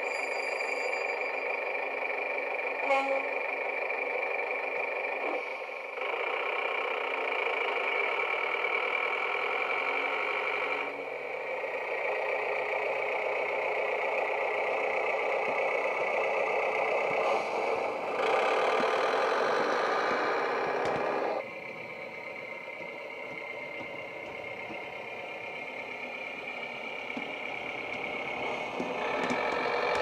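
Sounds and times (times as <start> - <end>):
diesel engine sound through small speaker: 0.0 - 30.0.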